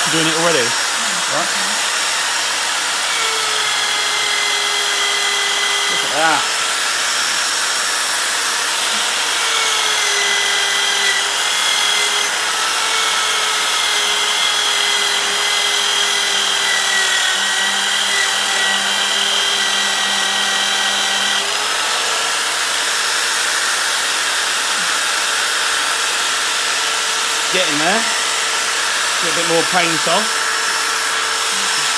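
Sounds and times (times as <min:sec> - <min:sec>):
electric drill with wire brush: 0:00.0 - 0:31.9.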